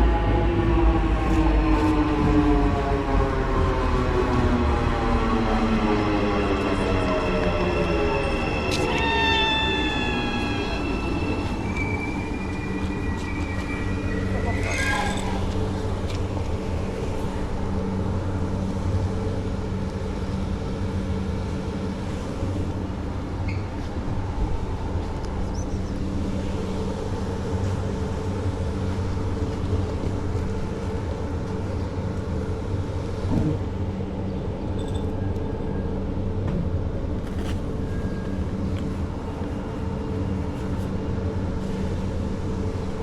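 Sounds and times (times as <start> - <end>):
train engine humming: 0.0 - 43.0.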